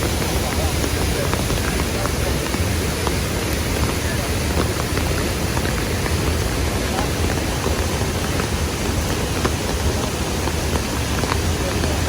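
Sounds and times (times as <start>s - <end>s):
heavy rain hissing: 0.0s - 12.0s
raindrops ticking close by: 0.0s - 12.0s.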